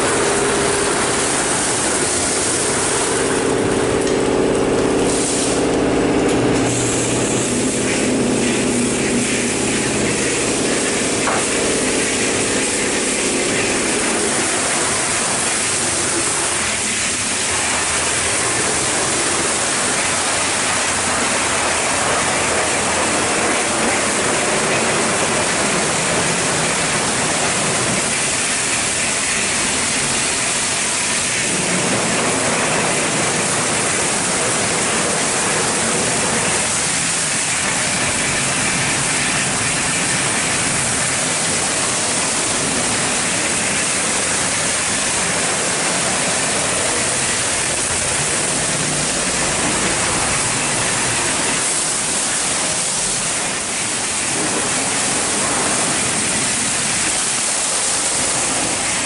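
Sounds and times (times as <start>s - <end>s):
spinning brushes scrubbing car: 0.0s - 59.0s
water spraying: 0.0s - 59.0s.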